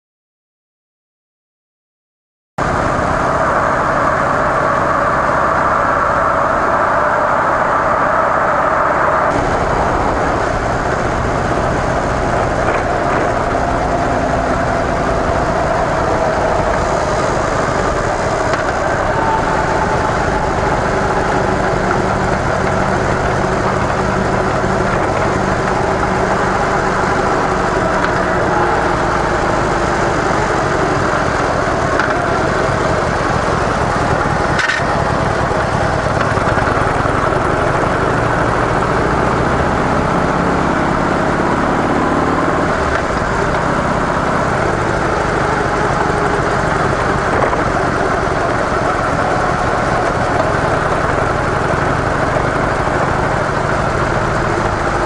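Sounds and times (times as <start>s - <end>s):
motorcycle engine running: 9.3s - 55.0s.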